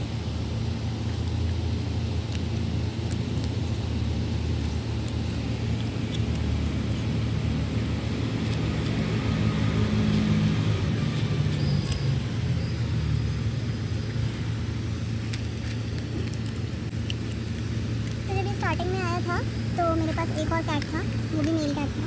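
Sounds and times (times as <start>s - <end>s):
low motor rumble: 0.0s - 22.0s
cat crunching dry kibble: 0.6s - 22.0s.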